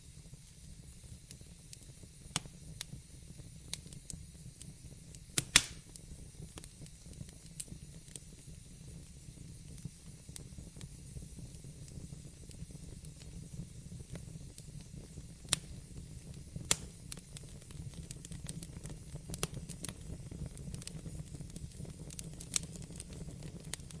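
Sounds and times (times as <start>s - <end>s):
low rumble of flame: 0.0s - 24.0s
wood fire crackling: 0.0s - 24.0s
sharp pops of fire: 0.1s - 24.0s.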